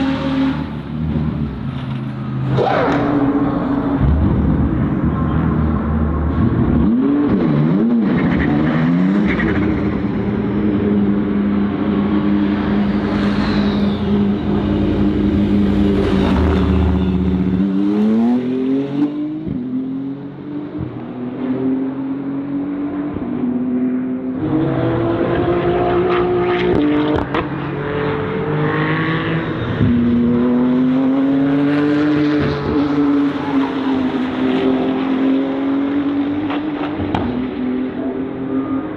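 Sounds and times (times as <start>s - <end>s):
race car engine: 0.0s - 38.9s.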